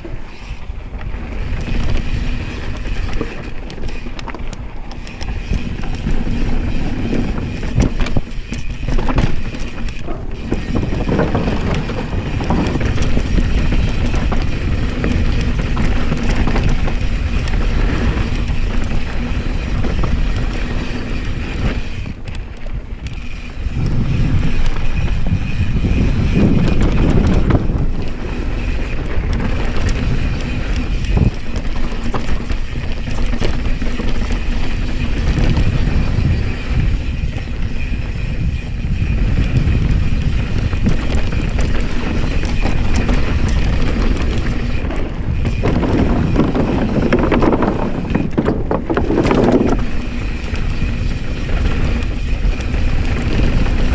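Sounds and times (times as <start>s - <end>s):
tyres rolling on wooden planks: 0.0s - 38.8s, 39.4s - 53.9s
bike rattling: 0.0s - 53.9s
bike tyres rumbling on dirt: 0.0s - 53.9s
wind on microphone: 0.0s - 53.9s.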